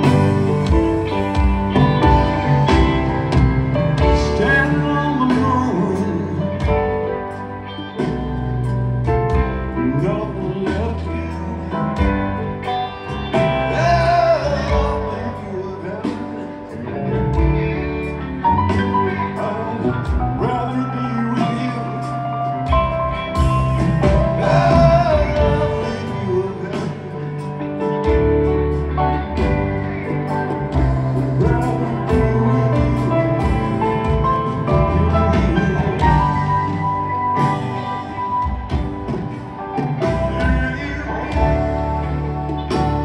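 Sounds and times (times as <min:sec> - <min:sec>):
electric guitar lines: 0:00.0 - 0:43.0
live rock band playing ballad: 0:00.0 - 0:43.0.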